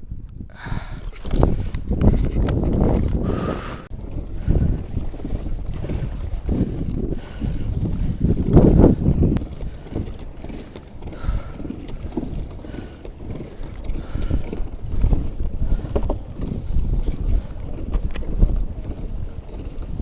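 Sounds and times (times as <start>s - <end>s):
wind rumbling on microphone: 0.0s - 20.0s
water sloshing against kayak: 0.5s - 20.0s.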